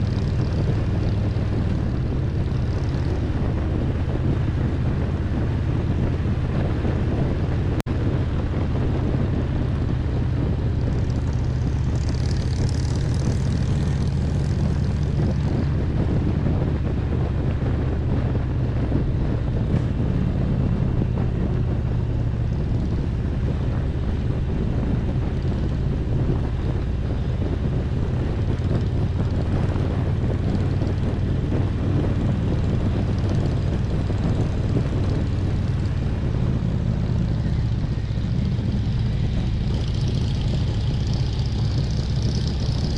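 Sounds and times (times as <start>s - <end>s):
motorcycle engine cruising: 0.0s - 42.9s.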